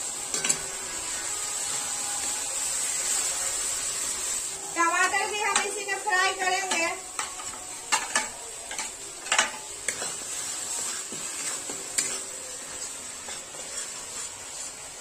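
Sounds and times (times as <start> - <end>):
masala sizzling in a metal pan: 0.0 - 15.0
metal spatula stirring and scraping: 0.1 - 15.0.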